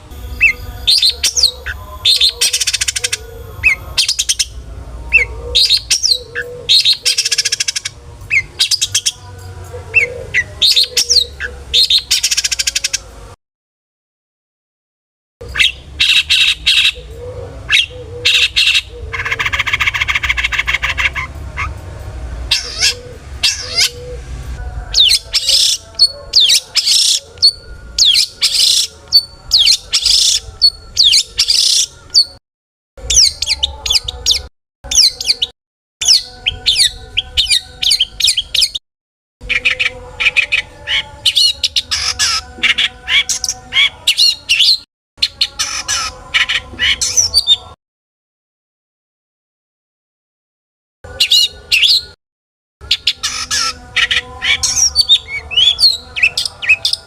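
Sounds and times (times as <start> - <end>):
shrike singing: 0.0 - 13.4, 15.4 - 32.4, 33.0 - 38.8, 39.4 - 47.8, 52.8 - 57.0.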